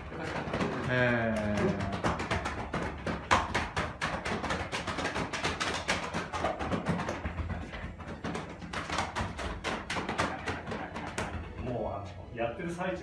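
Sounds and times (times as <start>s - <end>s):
hands slapping clothed body: 0.0s - 11.6s.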